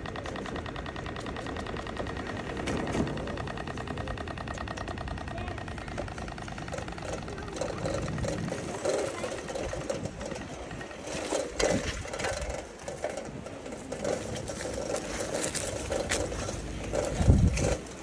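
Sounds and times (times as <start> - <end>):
bicycle ticking and rattling: 0.0 - 18.0.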